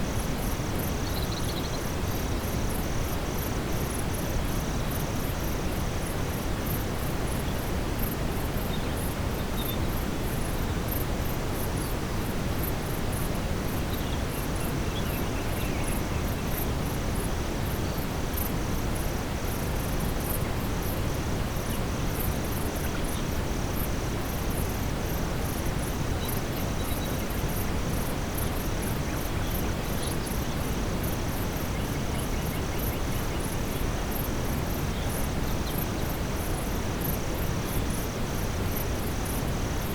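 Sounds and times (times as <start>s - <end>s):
brown noise hiss: 0.0s - 39.9s
crickets chirping: 0.0s - 39.9s.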